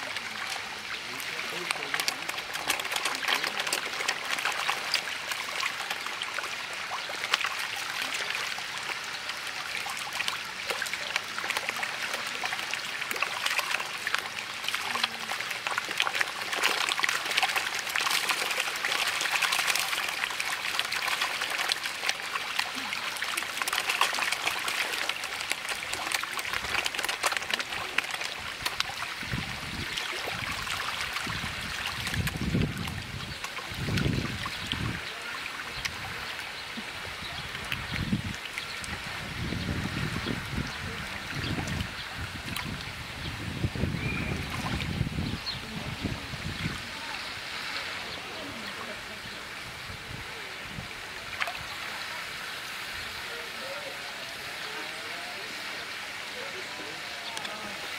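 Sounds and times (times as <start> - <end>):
fish splashing at water surface: 0.0 - 57.9.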